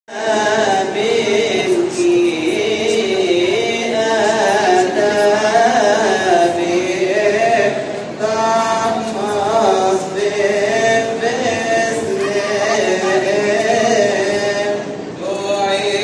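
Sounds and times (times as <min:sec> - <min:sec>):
men chanting a hymn: 0:00.1 - 0:16.0.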